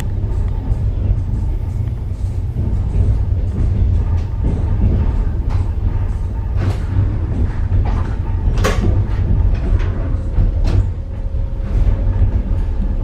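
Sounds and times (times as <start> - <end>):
train rumbling: 0.0 - 13.0
train running gear clacking: 0.0 - 13.0.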